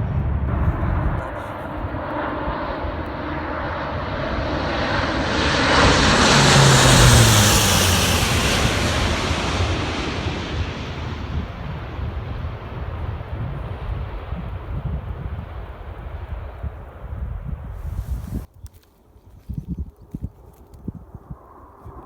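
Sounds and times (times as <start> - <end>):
aircraft flying past: 0.0 - 18.5.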